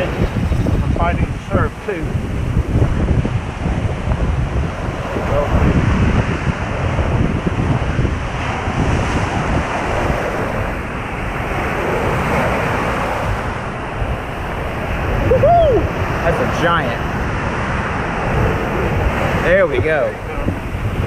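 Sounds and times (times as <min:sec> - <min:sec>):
surf breaking on sand: 0:00.0 - 0:21.0
wind buffeting microphone: 0:00.0 - 0:21.0.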